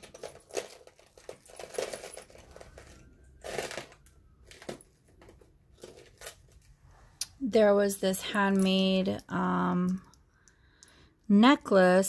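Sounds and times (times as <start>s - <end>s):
jewelry clinking and rattling: 0.0s - 6.7s, 7.7s - 12.0s.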